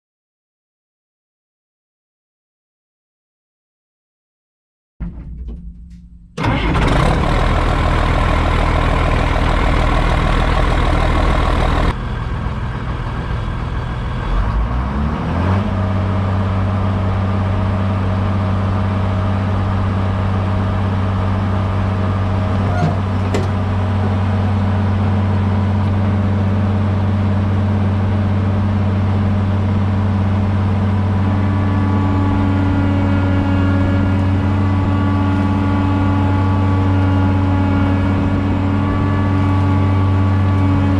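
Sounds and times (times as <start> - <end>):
heavy vehicle engine running: 6.4 - 40.9.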